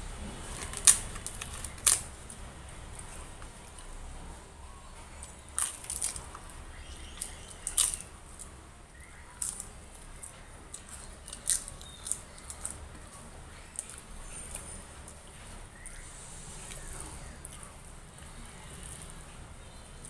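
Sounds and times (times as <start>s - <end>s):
crunching crisp food: 0.3s - 20.0s.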